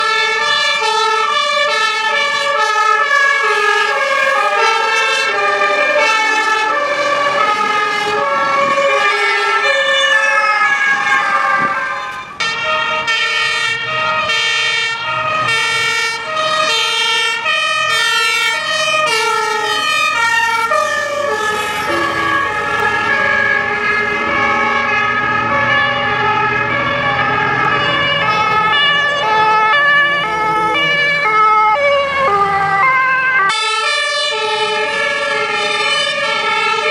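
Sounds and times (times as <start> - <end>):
two-tone fire truck siren: 0.0 - 36.9.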